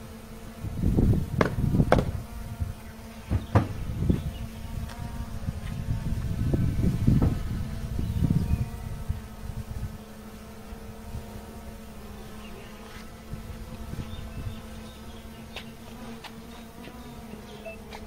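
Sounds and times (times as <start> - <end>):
low buzzing hum: 0.0 - 18.0.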